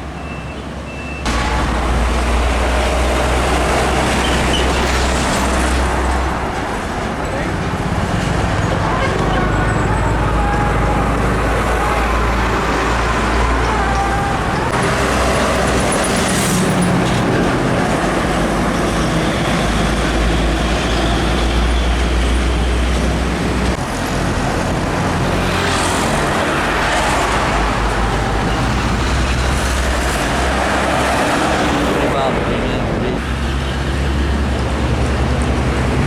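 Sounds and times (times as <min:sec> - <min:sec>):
trucks passing on highway: 0:00.0 - 0:36.0.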